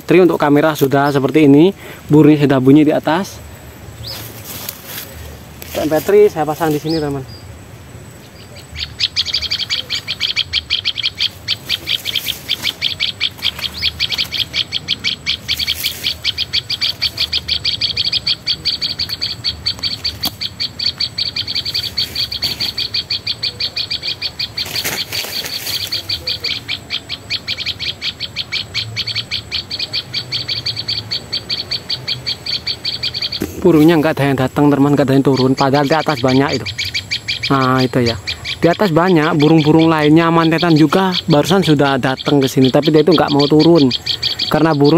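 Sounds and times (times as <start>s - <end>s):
recorded bird chirps: 0.0s - 44.9s.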